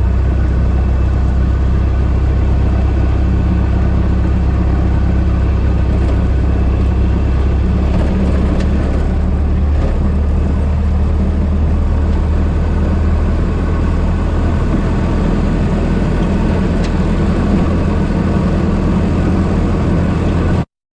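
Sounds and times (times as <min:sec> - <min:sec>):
car engine running: 0:00.0 - 0:20.7.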